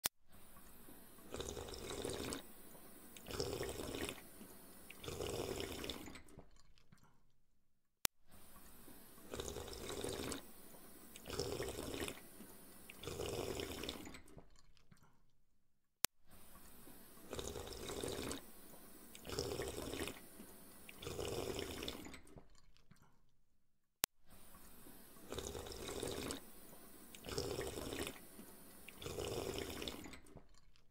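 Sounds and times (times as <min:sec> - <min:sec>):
surges of liquid: 0:00.3 - 0:07.2, 0:08.3 - 0:15.2, 0:16.3 - 0:23.2, 0:24.3 - 0:30.9.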